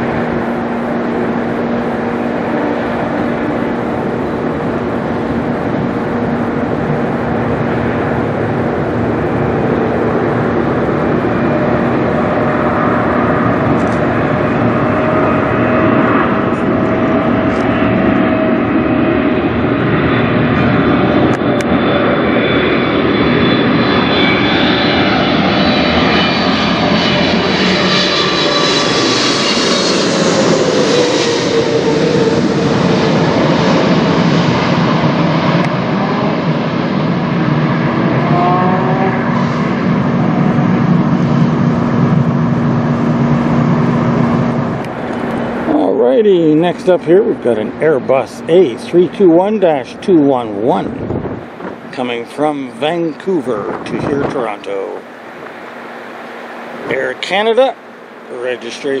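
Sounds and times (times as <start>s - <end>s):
jet airliner passing overhead: 0.0s - 59.0s.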